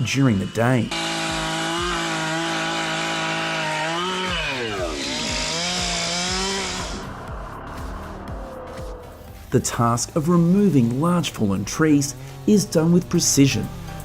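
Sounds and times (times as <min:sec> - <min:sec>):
chainsaw engine cutting: 0:00.0 - 0:14.0.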